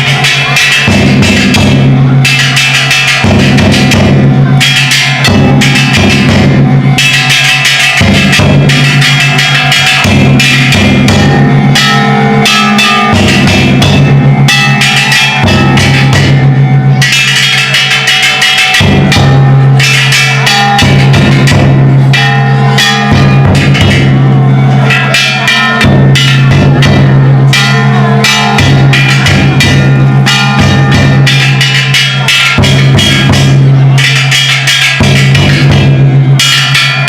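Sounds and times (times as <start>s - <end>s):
big taiko drum: 0.0s - 37.0s
gongs ringing: 0.0s - 37.0s.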